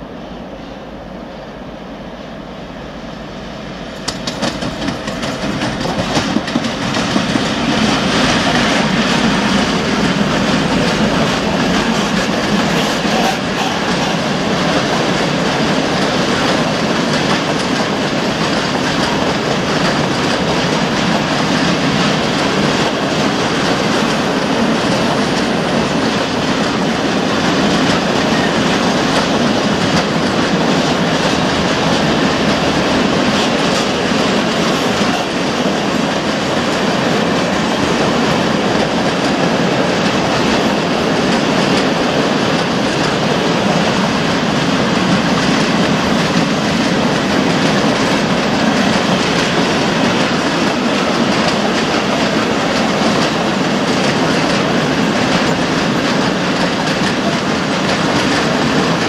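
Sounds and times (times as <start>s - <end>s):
diesel locomotive engine drone: 0.0s - 59.0s
wheels clacking over rail joints: 4.0s - 59.0s.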